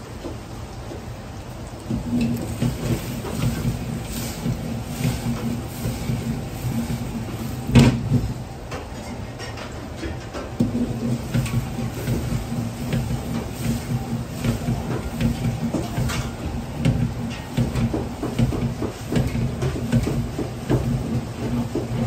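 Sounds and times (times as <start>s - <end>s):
gas burner roaring: 0.0s - 22.0s
wok knocking and scraping: 1.9s - 8.4s, 10.6s - 22.0s.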